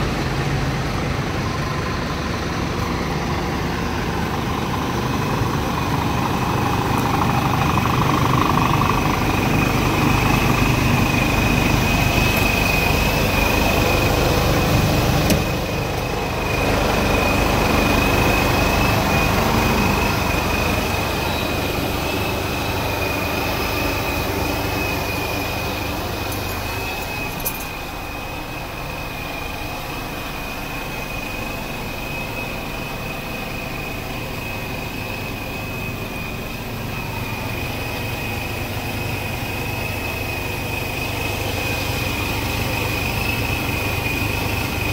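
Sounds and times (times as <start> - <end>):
diesel truck engine idling: 0.0 - 44.9
high-pitched whine: 0.0 - 44.9.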